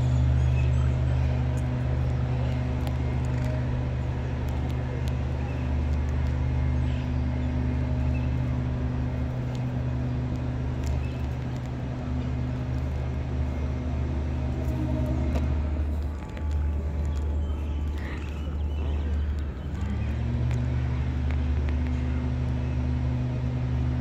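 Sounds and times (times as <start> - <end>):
constant low hum: 0.0 - 24.0
distant city traffic rumble: 0.0 - 24.0.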